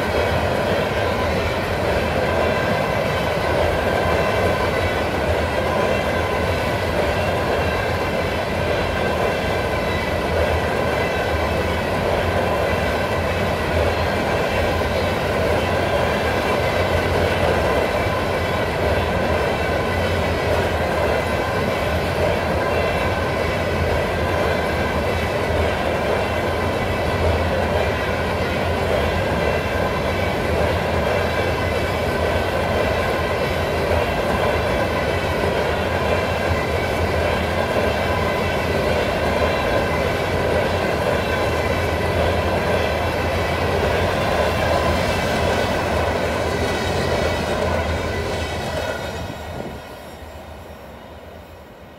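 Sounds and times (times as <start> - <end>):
ringing tone from wheels: 0.0 - 51.3
train wheels rumbling on rails: 0.0 - 51.9.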